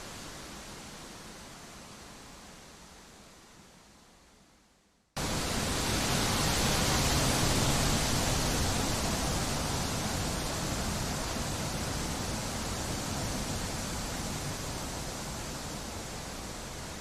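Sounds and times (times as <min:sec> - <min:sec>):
rushing wind hiss: 0:00.0 - 0:04.5, 0:05.2 - 0:17.0.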